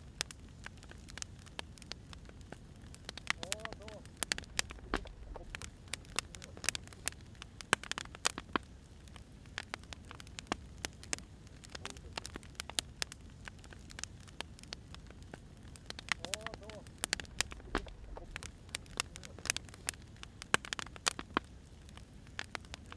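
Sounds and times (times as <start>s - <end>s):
firewood crackling and popping: 0.0s - 22.9s
low rumble of fire: 0.0s - 22.9s.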